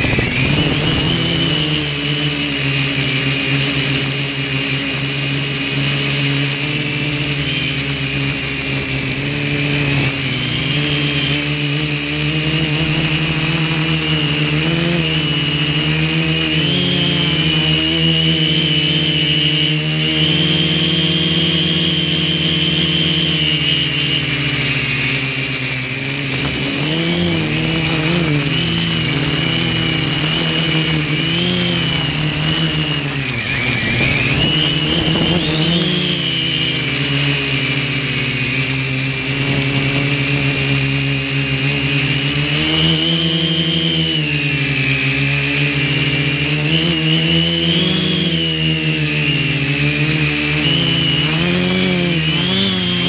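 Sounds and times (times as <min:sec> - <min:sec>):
drone motors buzzing whine: 0:00.0 - 0:53.0.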